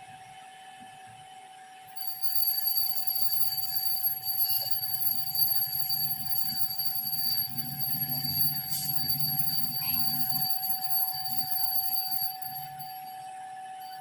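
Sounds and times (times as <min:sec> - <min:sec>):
faint steady mid tone: 0:01.9 - 0:14.0
high-pitched electronic whine: 0:01.9 - 0:14.0
low hum: 0:02.0 - 0:13.2.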